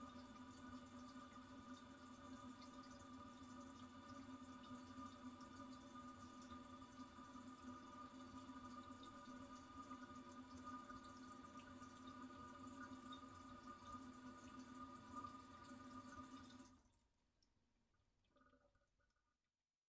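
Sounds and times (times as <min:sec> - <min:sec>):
toilet cistern refilling: 0:00.0 - 0:16.9, 0:18.2 - 0:19.4.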